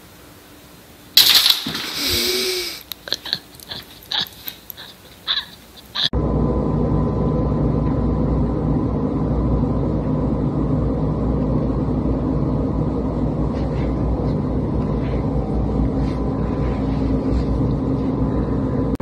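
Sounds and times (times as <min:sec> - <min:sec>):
machine hum with high whine: 0:00.0 - 0:19.0.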